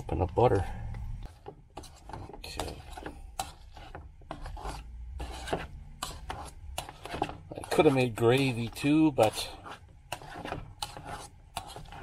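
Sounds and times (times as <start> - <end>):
masher rasping against pot: 1.2 - 12.0
masher squishing potatoes: 1.2 - 12.0.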